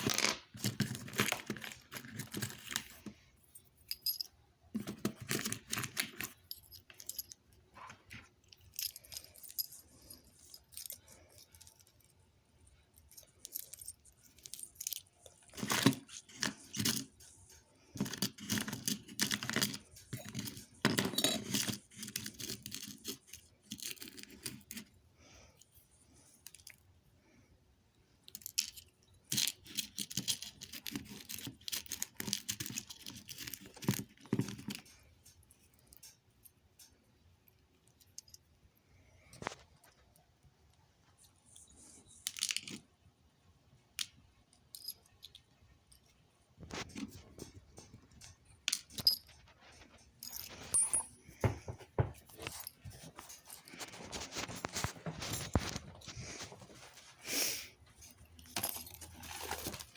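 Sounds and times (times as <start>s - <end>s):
objects rustling and clattering: 0.0s - 26.8s, 28.4s - 37.0s, 44.8s - 59.9s.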